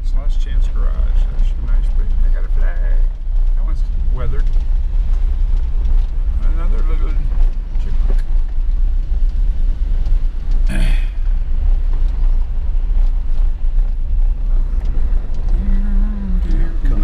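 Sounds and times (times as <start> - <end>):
car cabin rumble on gravel road: 0.0 - 17.0.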